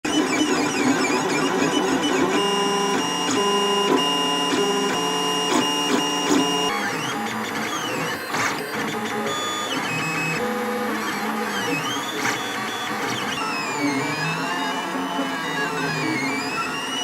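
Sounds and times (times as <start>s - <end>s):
stepper motors whining: 0.1s - 17.0s.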